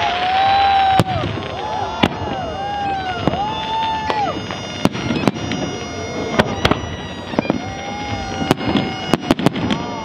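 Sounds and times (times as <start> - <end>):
fireworks bangs: 0.0 - 10.0
steady background din: 0.6 - 10.0.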